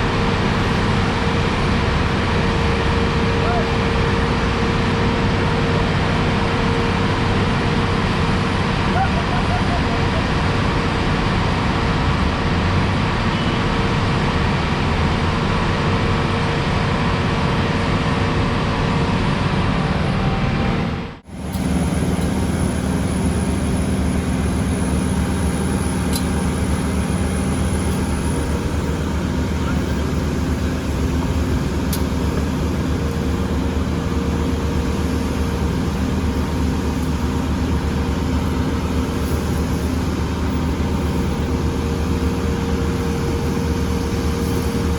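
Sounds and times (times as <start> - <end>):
heavy diesel engines droning: 0.0 - 44.9.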